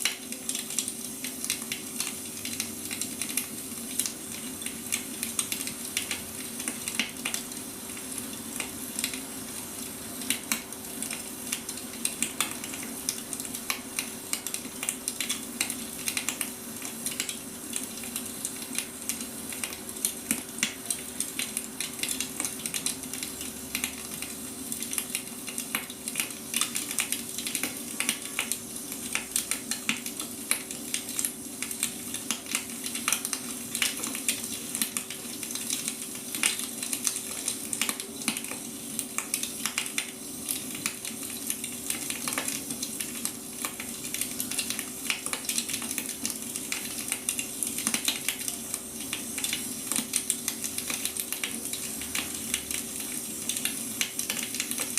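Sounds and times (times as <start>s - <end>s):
firewood crackling and popping: 0.0s - 9.3s, 10.2s - 54.9s.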